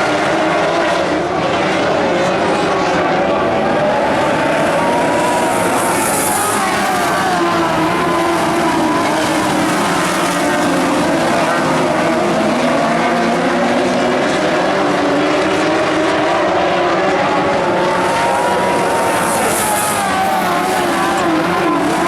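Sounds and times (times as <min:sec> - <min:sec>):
race car engines: 0:00.0 - 0:22.0.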